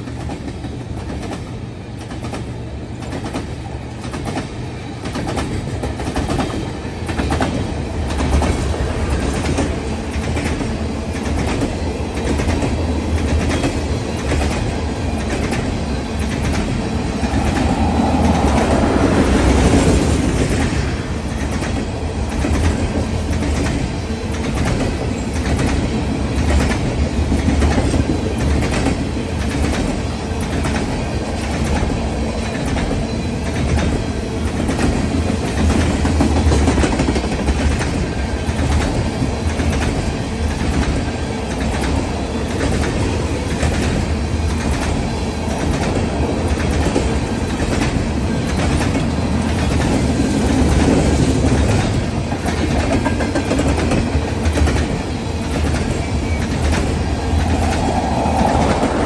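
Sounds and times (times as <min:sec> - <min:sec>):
freight train rumbling past: 0:00.0 - 0:59.0
wheels clickety-clack on track: 0:00.0 - 0:59.0.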